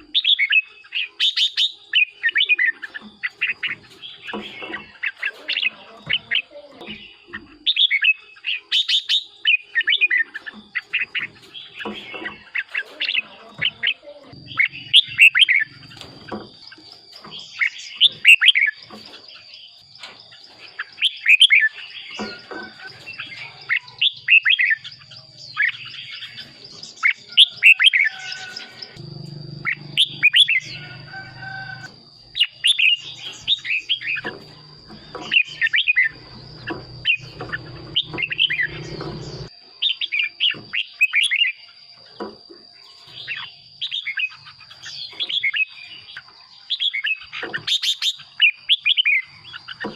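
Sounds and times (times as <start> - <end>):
bird singing warbled phrases: 0.0 - 49.9.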